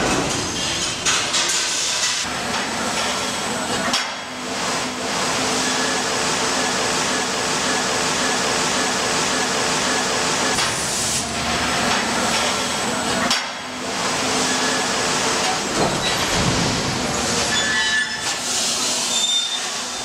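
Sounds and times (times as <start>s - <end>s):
loud steady machinery hiss: 0.0s - 20.0s.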